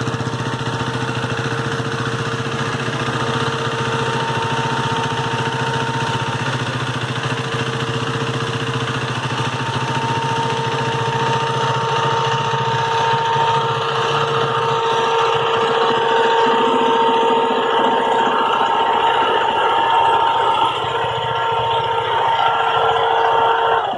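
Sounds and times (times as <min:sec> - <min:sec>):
motorcycle engine idling: 0:00.0 - 0:23.9
steady whine: 0:00.0 - 0:23.9.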